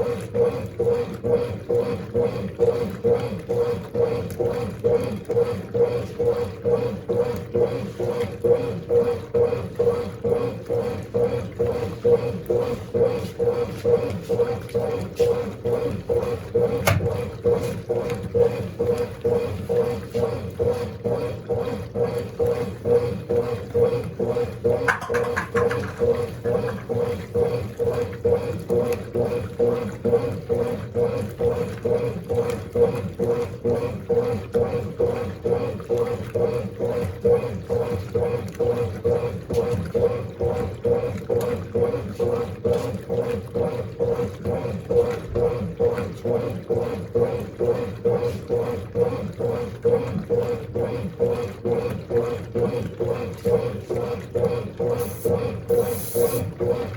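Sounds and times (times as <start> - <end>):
washing machine motor drone: 0.0 - 56.9.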